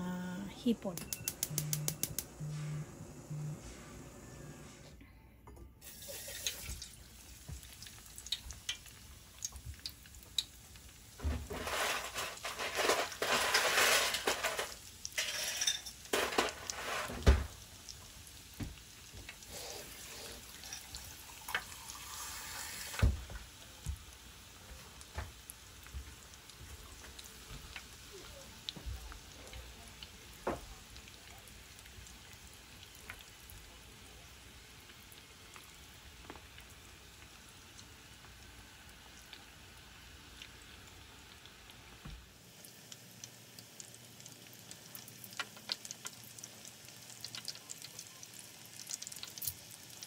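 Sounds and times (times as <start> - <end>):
shrimp sizzling in hot oil: 5.8 - 50.0.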